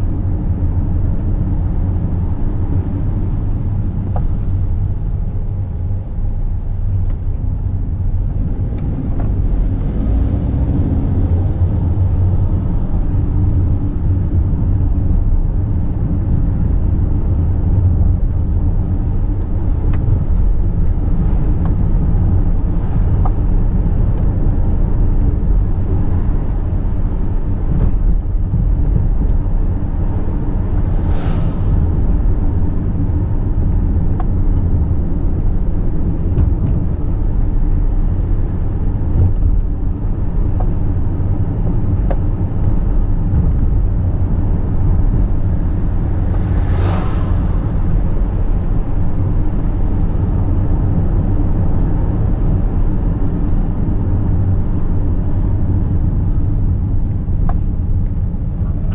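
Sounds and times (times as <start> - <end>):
car engine and tyre rumble: 0.0 - 58.9.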